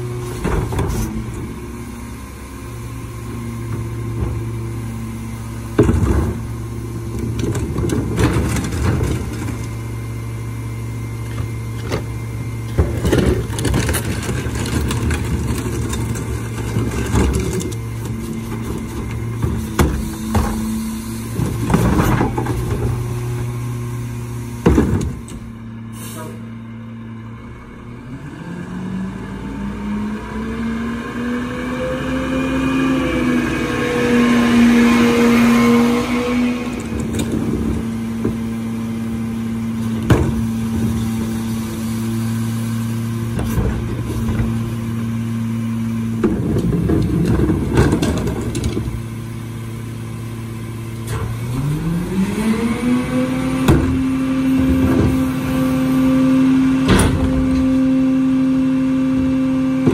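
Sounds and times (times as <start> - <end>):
garbage truck diesel engine: 0.0 - 59.9.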